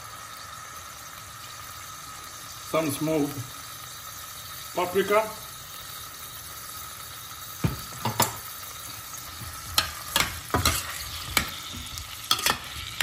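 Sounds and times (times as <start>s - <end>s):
potatoes sizzling in a pan: 0.0s - 13.0s.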